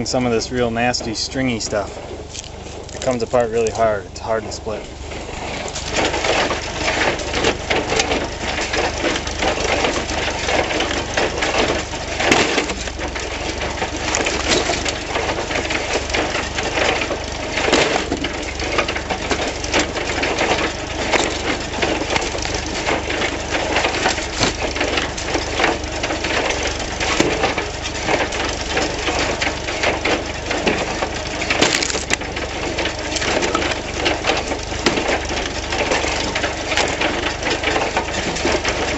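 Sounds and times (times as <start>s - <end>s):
loud wood cracks: 0.0s - 38.9s
machine running: 0.0s - 38.9s
wood crackling and splintering: 0.0s - 38.9s.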